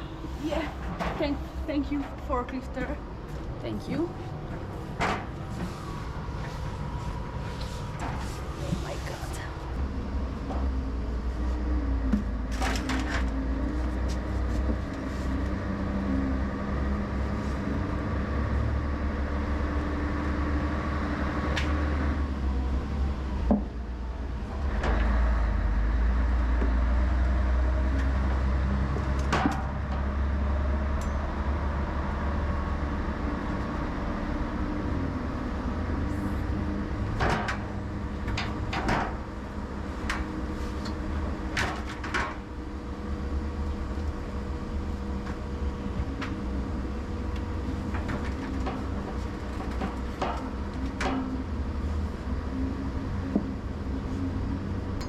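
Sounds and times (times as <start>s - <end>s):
engine rumbling: 0.0s - 55.0s.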